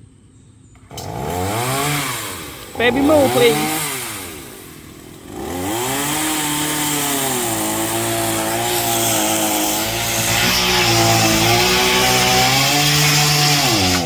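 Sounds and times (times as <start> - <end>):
chainsaw cutting branch: 0.8 - 14.0.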